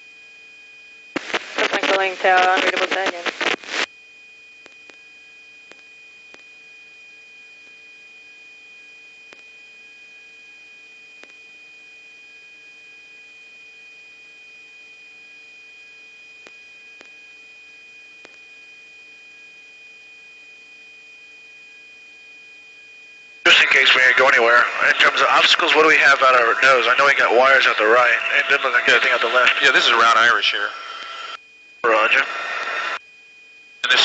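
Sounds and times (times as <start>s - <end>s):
electronic hum with tones: 0.0s - 34.0s.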